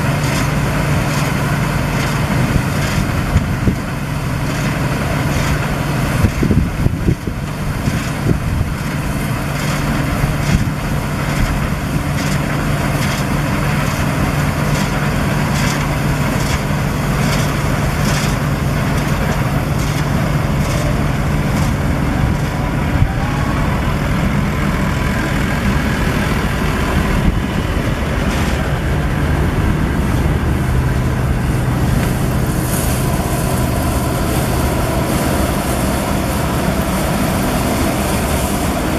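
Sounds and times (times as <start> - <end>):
combine harvester engine humming: 0.0 - 38.9.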